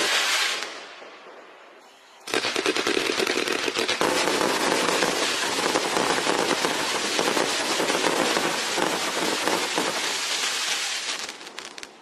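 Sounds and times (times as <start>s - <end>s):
fireworks crackling and popping: 0.0s - 1.5s, 2.2s - 12.0s.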